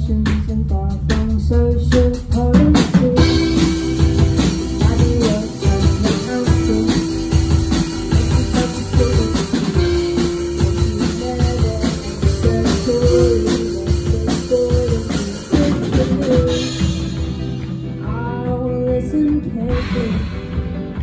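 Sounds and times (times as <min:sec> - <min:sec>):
bass guitar: 0:00.0 - 0:21.0
drum kit: 0:00.0 - 0:21.0
electric guitars: 0:02.2 - 0:21.0.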